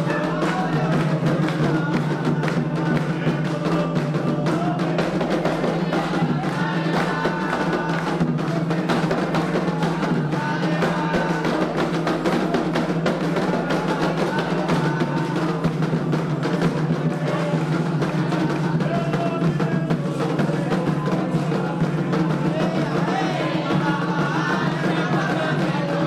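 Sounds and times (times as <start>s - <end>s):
fast hand drumming: 0.0s - 26.0s
voices chanting: 0.0s - 26.0s.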